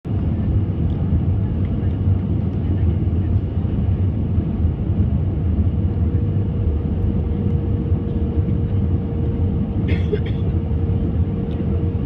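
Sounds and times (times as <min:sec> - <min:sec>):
aircraft engines rumbling in cabin: 0:00.1 - 0:12.0.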